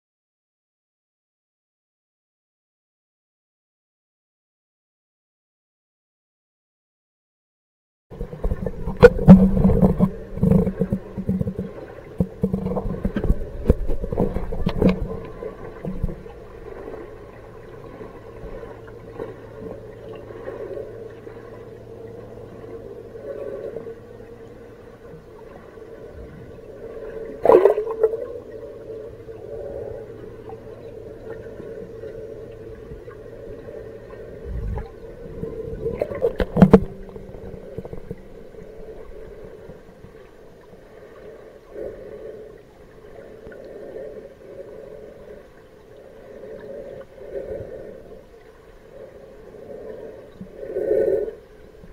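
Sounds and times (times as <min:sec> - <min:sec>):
underwater low hum: 0:08.1 - 0:51.9.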